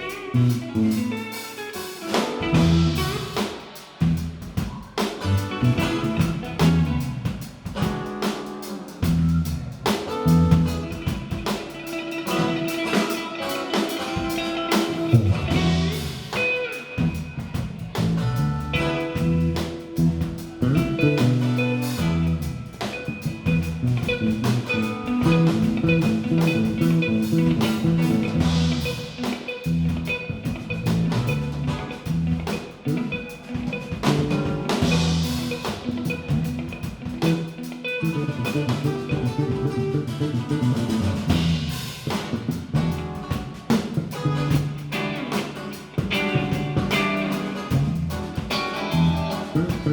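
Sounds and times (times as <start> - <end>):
drum kit beat: 0.0 - 49.9
electric guitar playing: 0.0 - 49.9.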